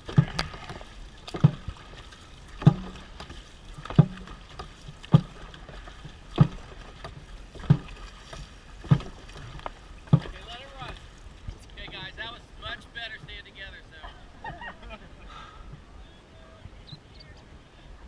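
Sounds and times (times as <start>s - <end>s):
drum beating slowly: 0.0s - 15.9s.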